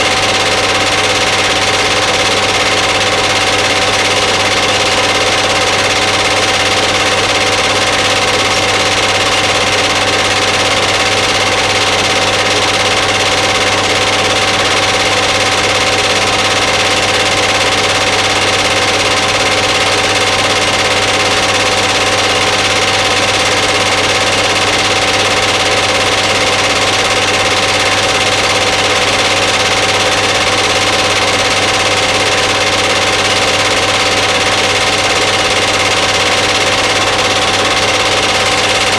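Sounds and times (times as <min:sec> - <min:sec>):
small machine humming: 0:00.0 - 0:38.9.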